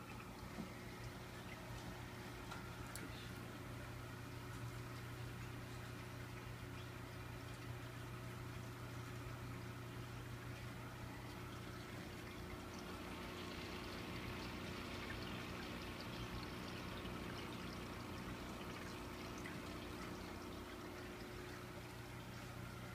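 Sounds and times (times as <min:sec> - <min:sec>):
aquarium water trickling and bubbling: 0:00.0 - 0:22.9.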